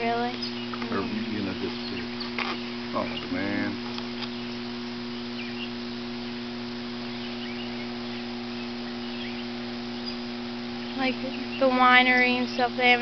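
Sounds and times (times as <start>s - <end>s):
electrical hum: 0.0s - 13.0s
faint high chirps: 0.3s - 11.7s
light hiss: 0.3s - 13.0s.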